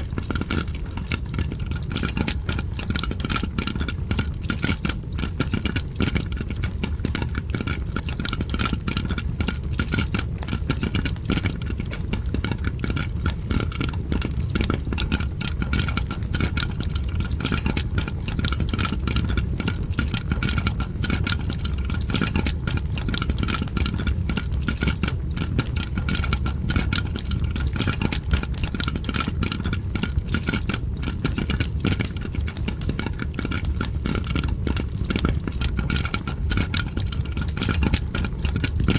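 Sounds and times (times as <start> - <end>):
continuous low rumble: 0.0 - 38.9
popcorn popping: 0.0 - 38.9
fire crackling: 5.7 - 38.9.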